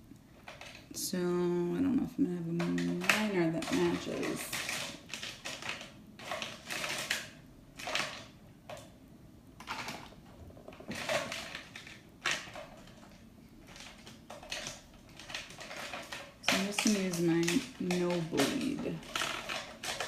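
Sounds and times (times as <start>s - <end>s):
plastic pencils clattering together: 0.4s - 1.0s, 2.5s - 8.9s, 9.6s - 20.0s.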